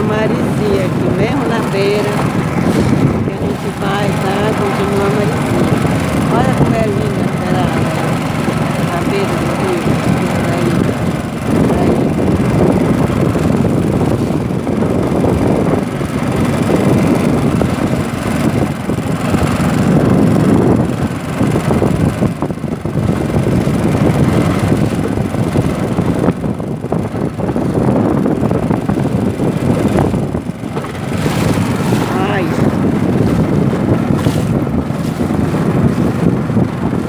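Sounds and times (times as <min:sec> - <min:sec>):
choppy river water: 0:00.0 - 0:37.0
wind buffeting microphone: 0:00.0 - 0:37.0.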